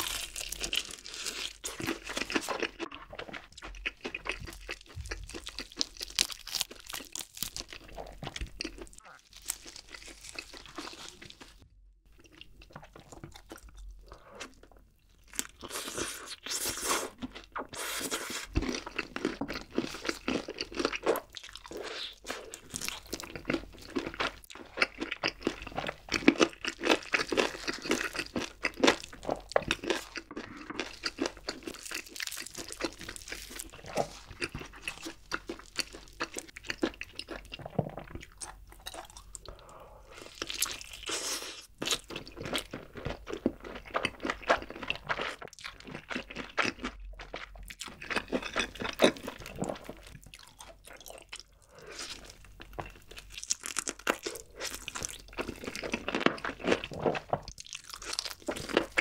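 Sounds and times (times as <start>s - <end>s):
crunching and chewing fried chicken: 0.0s - 59.0s.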